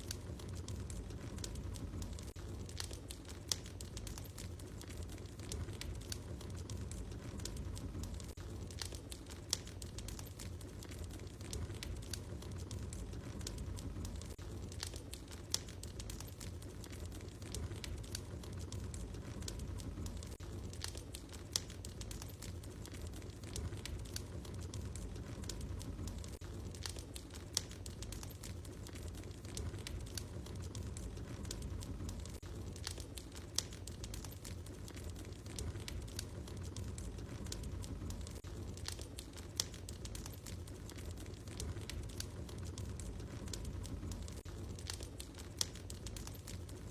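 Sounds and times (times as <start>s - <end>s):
loud fire pops: 0.0s - 46.9s
low fire rumble: 0.0s - 46.9s
wood fire crackling: 0.0s - 46.9s.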